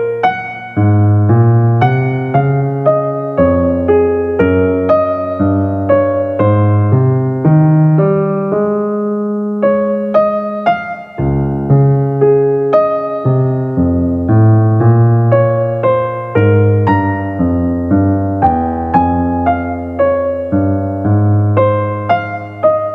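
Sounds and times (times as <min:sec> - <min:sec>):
piano melody: 0:00.0 - 0:22.9.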